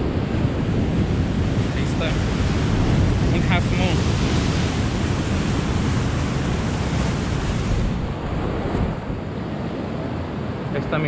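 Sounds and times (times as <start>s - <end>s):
wind noise on microphone: 0.0s - 10.8s.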